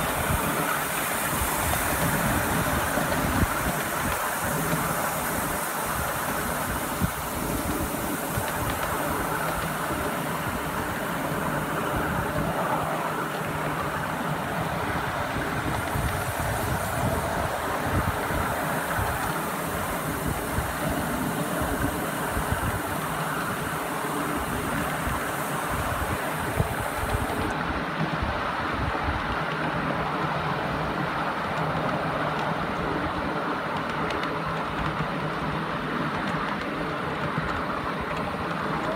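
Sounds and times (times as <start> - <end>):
steam locomotive working: 0.0 - 38.9
train wheels rolling on track: 0.0 - 38.9.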